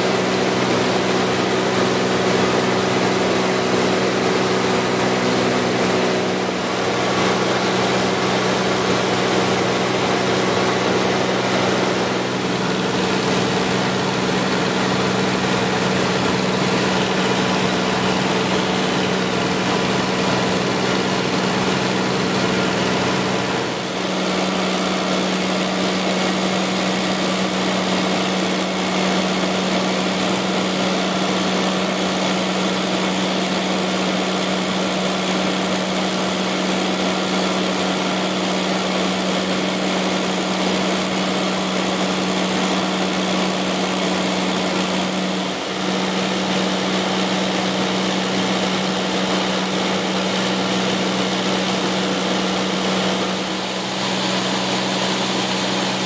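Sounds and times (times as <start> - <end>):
airplane engine drone in cabin: 0.0 - 56.0.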